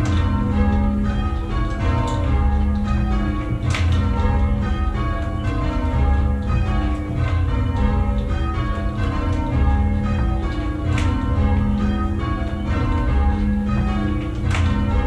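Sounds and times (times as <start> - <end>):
church bells change-ringing: 0.0 - 15.0.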